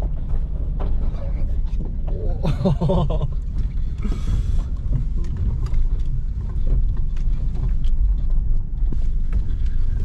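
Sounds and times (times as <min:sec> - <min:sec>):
car rumbling over rocky track: 0:00.0 - 0:10.0.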